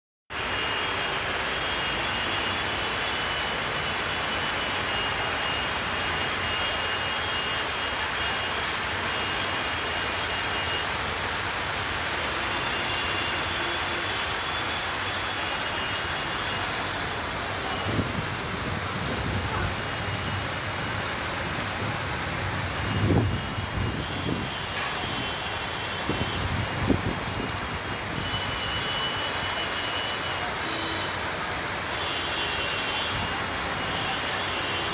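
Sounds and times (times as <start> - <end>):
heavy rain falling: 0.3 - 34.9.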